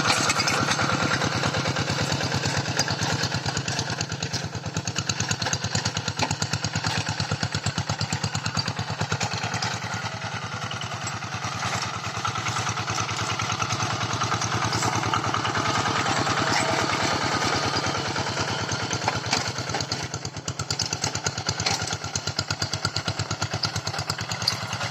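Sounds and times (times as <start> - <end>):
tractor engine chugging: 0.0 - 24.9.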